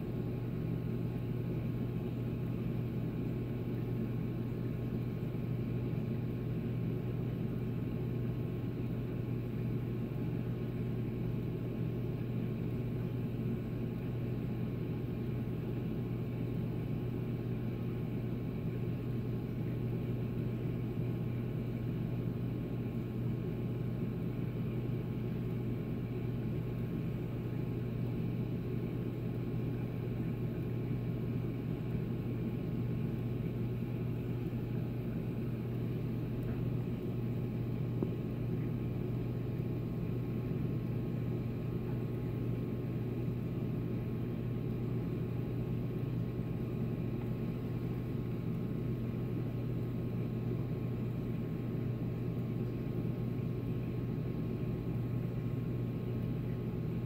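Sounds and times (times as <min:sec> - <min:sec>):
low electric hum: 0:00.0 - 0:57.0.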